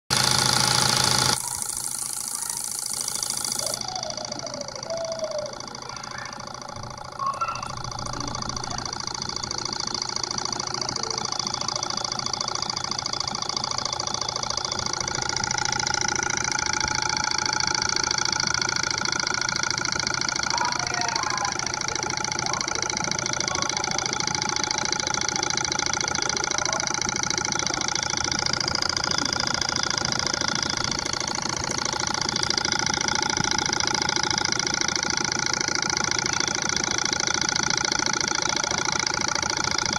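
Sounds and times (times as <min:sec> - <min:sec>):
stirling engines whirring and clattering: 0:00.1 - 0:39.9.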